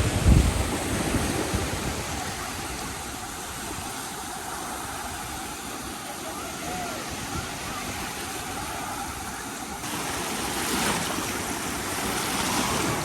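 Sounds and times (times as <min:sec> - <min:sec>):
sea waves washing on beach: 0:00.0 - 0:13.0
wind on microphone: 0:00.0 - 0:13.0.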